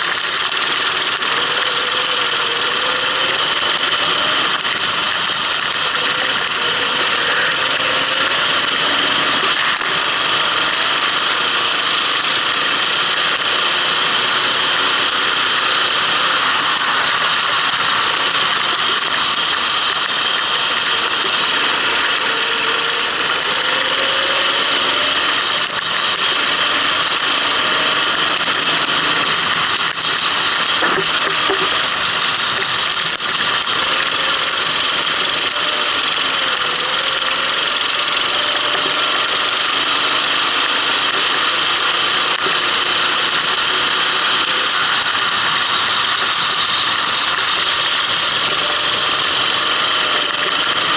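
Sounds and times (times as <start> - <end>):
kart engine running: 0.0 - 50.9.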